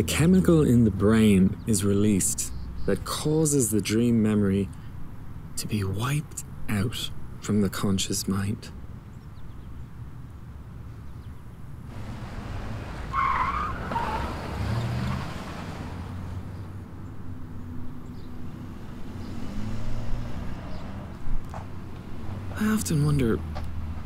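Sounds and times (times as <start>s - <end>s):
vehicles driving by: 0.0s - 24.0s.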